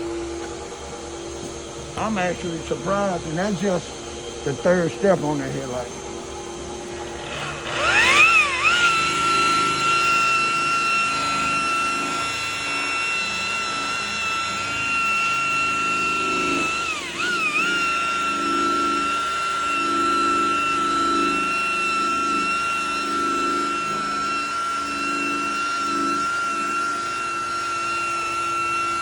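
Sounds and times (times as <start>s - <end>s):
electric sander high whine: 0.0s - 29.0s.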